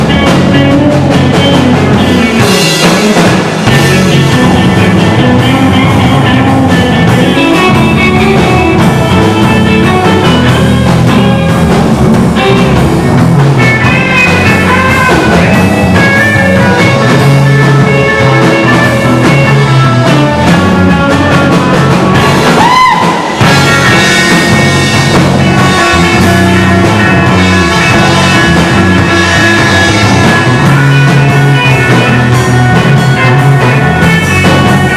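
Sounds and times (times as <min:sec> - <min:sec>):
rock band music: 0:00.0 - 0:34.9.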